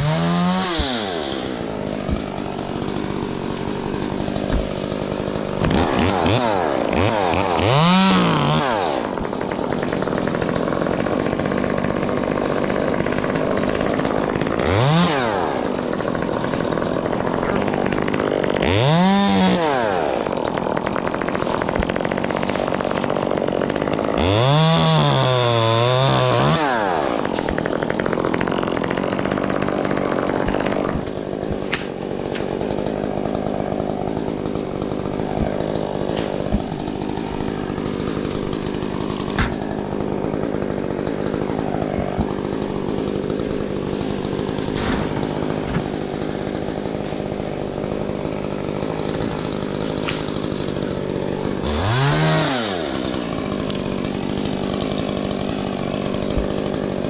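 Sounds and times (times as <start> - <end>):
chainsaw idling and revving: 0.0 - 57.0.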